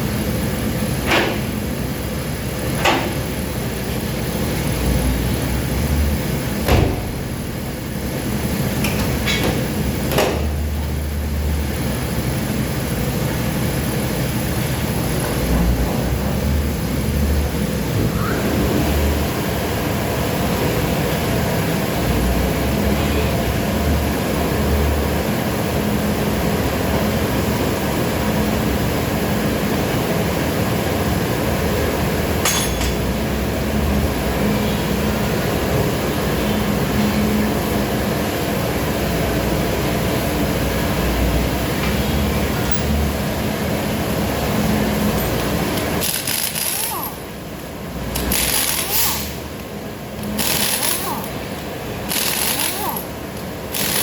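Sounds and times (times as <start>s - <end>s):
low mechanical rumble: 0.0s - 54.0s.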